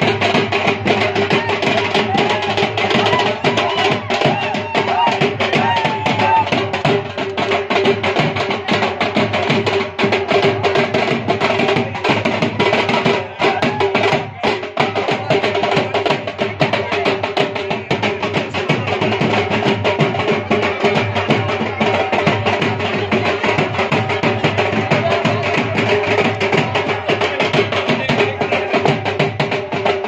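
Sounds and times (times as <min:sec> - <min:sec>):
drums beating fast rhythm: 0:00.0 - 0:30.0.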